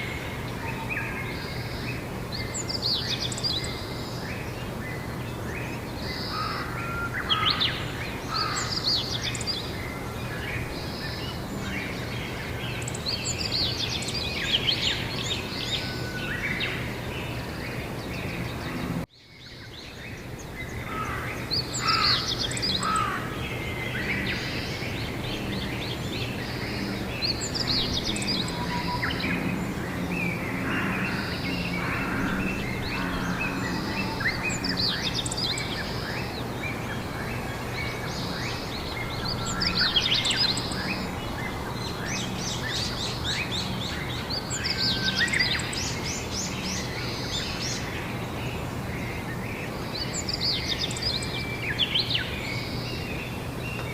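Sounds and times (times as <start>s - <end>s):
songbirds singing and chirping: 0.0s - 53.9s.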